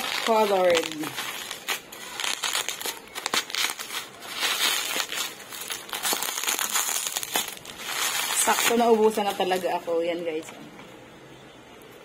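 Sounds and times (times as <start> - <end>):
bubble wrap crinkling: 0.0 - 10.4.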